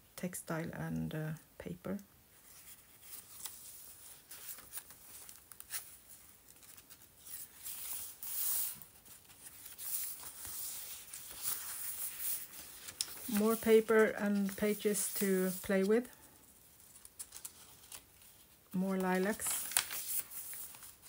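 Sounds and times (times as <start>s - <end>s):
pages rustling: 2.4s - 21.0s.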